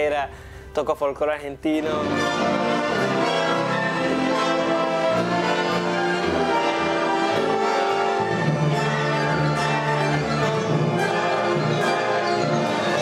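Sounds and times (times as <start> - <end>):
strings: 0.0 - 13.0
brass: 1.8 - 13.0.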